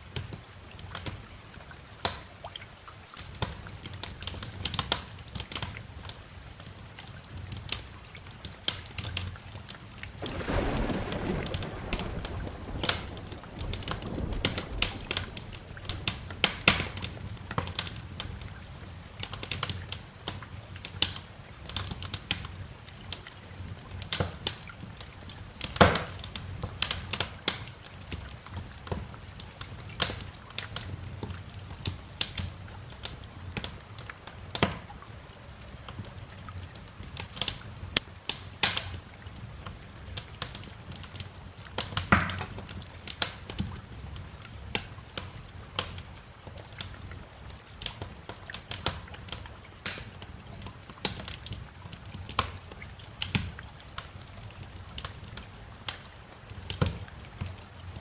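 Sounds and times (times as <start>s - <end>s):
wood fire crackling and popping: 3.3s - 58.0s.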